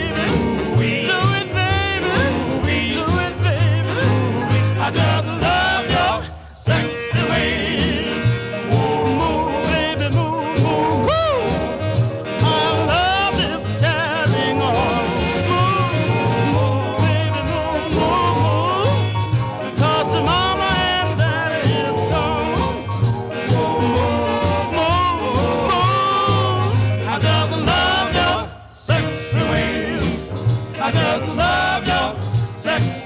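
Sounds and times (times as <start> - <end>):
steady bass beat: 0.0 - 28.4
person singing: 0.0 - 33.0.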